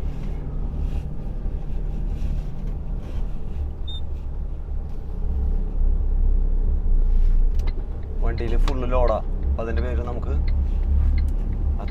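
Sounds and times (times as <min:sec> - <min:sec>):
diesel truck engine rumbling: 0:00.0 - 0:11.9.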